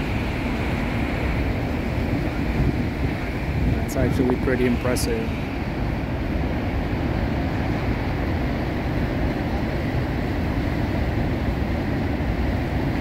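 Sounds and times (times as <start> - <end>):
waterfall rushing and rumbling: 0.0 - 13.0.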